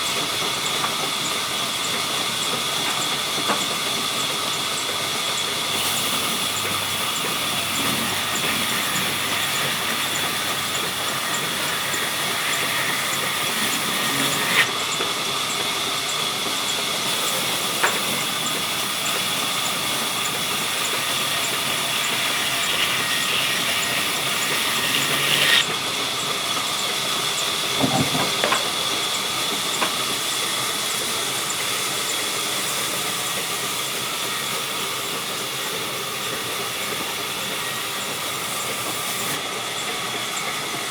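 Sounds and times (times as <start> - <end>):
saw running with high whine: 0.0 - 40.9.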